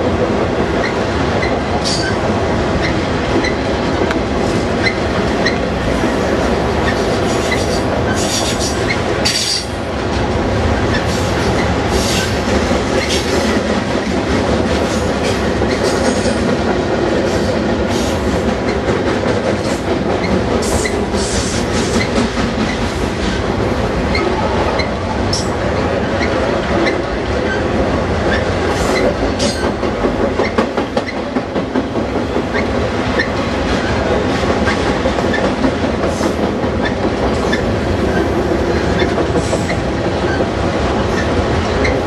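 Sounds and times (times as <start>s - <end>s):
train wheels rumbling on rail: 0.0s - 42.0s
wheels clicking over rail joints: 0.2s - 42.0s.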